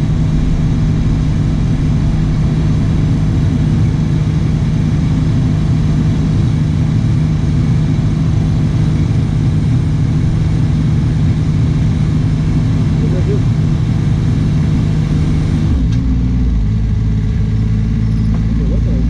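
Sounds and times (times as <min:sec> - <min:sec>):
mini loader engine running: 0:00.0 - 0:19.0.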